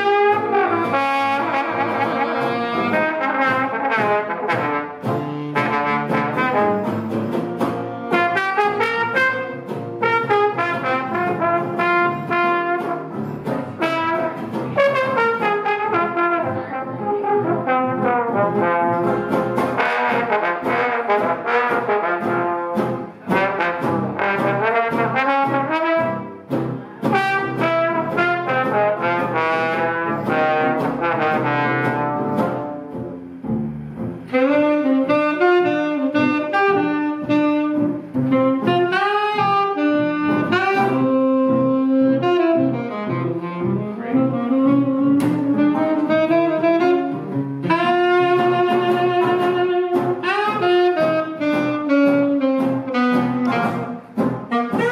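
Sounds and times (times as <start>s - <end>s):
acoustic guitar: 0.0s - 54.9s
trombone lead: 0.0s - 54.9s
upright bass: 0.0s - 54.9s.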